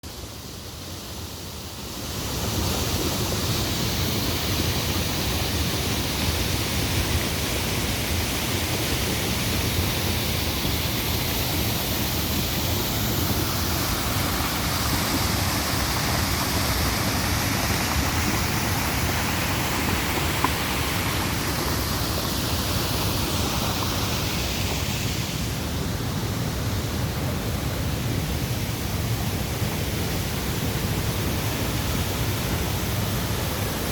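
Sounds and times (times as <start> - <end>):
waterfall rushing: 1.4 - 33.9.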